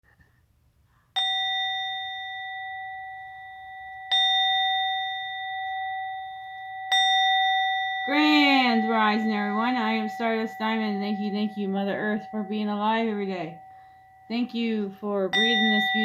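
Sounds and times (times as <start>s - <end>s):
bell ringing: 1.2s - 16.0s.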